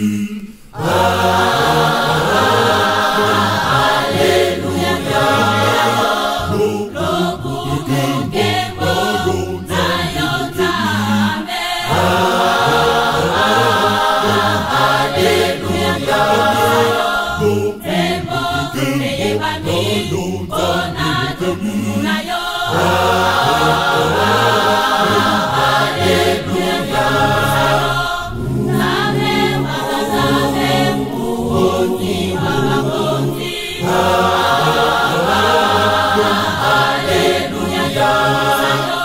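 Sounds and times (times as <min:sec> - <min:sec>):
mixed choir singing a hymn: 0:00.0 - 0:39.0.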